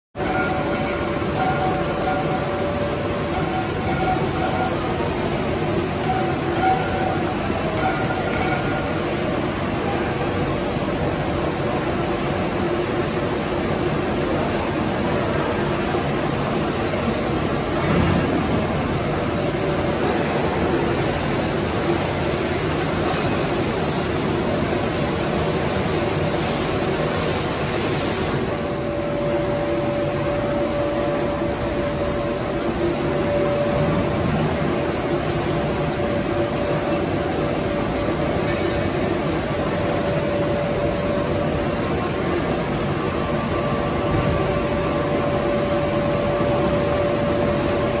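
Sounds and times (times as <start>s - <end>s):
machine rollers humming and hissing: 0.2s - 48.0s
steady machine whine: 0.2s - 48.0s.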